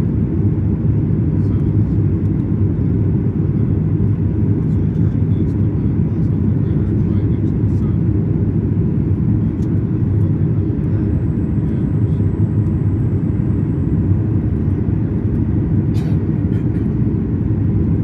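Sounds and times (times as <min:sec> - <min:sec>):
airplane engine rumble in cabin: 0:00.0 - 0:18.0.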